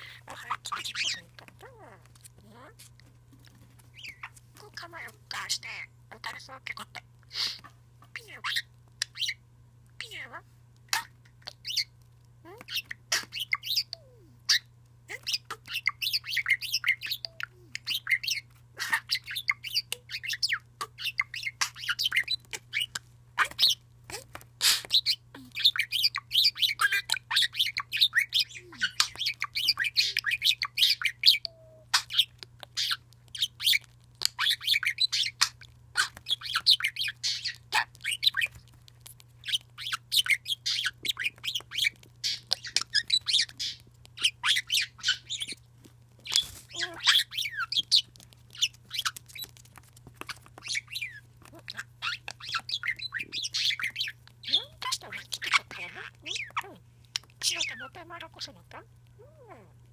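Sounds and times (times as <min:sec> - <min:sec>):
budgerigar chirping: 0:00.0 - 0:01.9, 0:04.0 - 0:09.4, 0:10.9 - 0:11.9, 0:12.7 - 0:38.6, 0:39.4 - 0:45.6, 0:46.2 - 0:49.6, 0:50.2 - 0:58.8.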